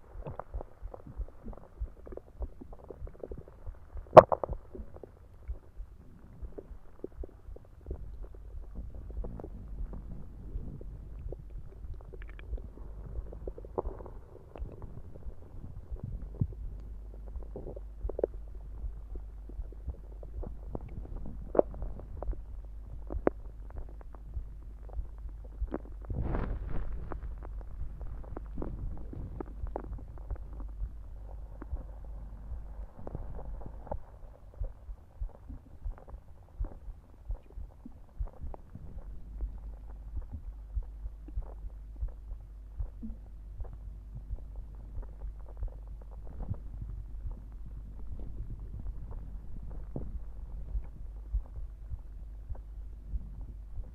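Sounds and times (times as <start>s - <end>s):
heartbeat thudding: 0.0s - 53.9s
stomach gurgles and pops: 0.0s - 53.9s
stomach rumbling: 0.0s - 53.9s.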